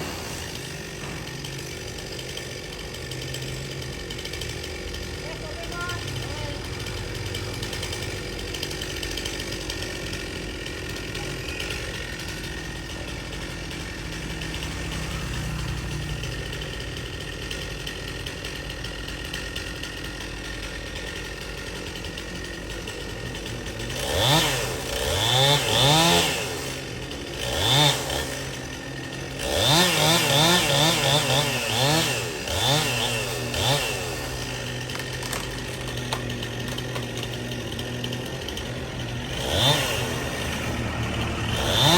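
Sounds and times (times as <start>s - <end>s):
chainsaw idling and revving: 0.0s - 41.9s.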